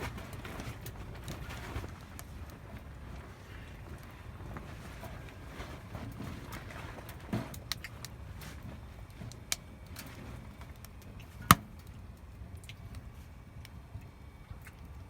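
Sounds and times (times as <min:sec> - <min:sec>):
wood fire crackling and popping: 0:00.0 - 0:13.8.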